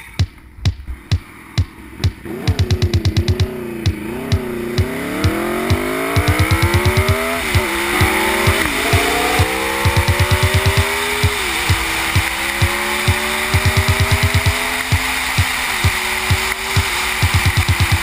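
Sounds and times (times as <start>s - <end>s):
music with steady drum beat: 0.0s - 18.0s
motorcycle engine accelerating: 0.6s - 18.0s.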